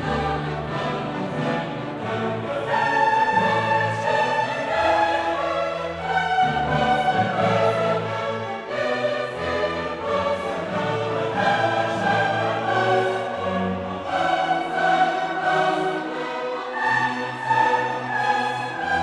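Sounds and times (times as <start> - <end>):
choir singing held notes: 0.0 - 19.0
orchestral strings: 0.0 - 19.0.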